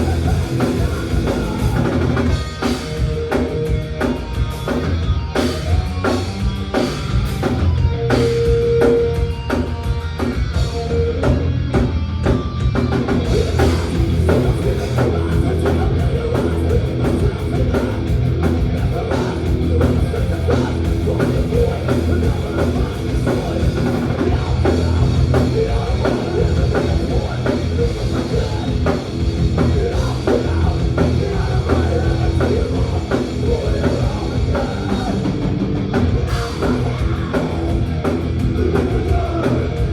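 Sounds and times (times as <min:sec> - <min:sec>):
thrash metal band playing live: 0:00.0 - 0:39.9.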